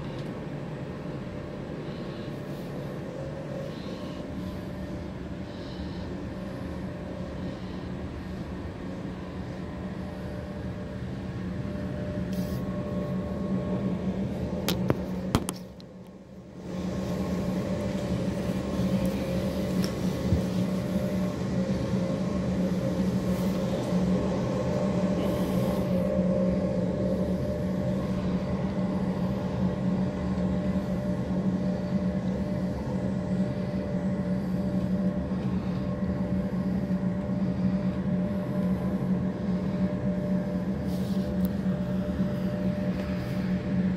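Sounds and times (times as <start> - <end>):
train rumbling from inside: 0.0 - 43.9.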